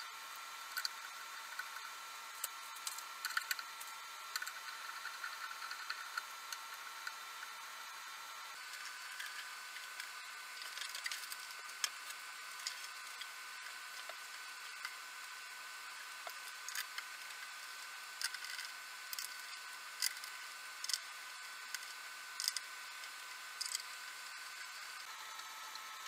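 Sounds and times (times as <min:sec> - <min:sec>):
small parts and tools clicking: 0:00.6 - 0:07.6, 0:08.6 - 0:15.1, 0:15.9 - 0:25.9.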